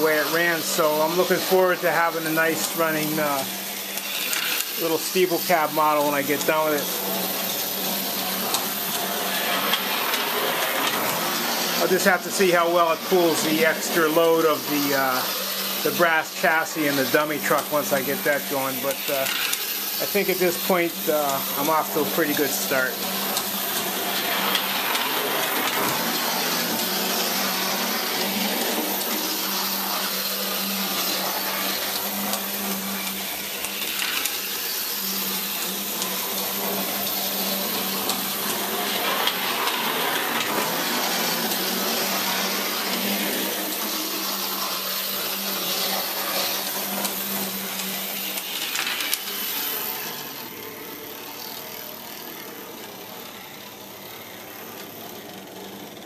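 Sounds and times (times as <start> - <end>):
small electric motor whirring: 0.0 - 56.0
wheels rolling on rails: 0.0 - 56.0.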